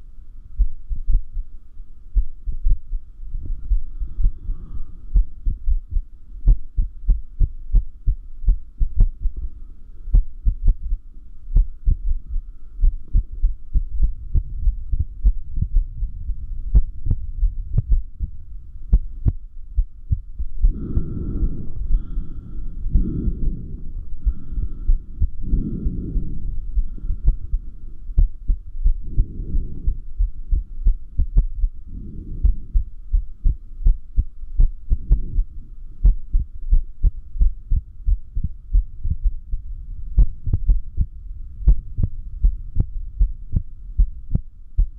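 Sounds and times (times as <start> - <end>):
heartbeat: 0.6 - 44.9
low rushing sounds: 2.6 - 7.6, 8.4 - 44.1.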